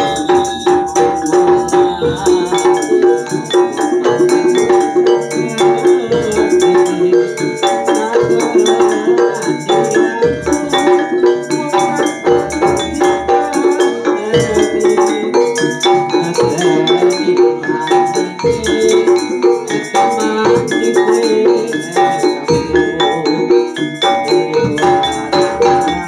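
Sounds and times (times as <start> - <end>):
gamelan ensemble playing: 0.0 - 26.0.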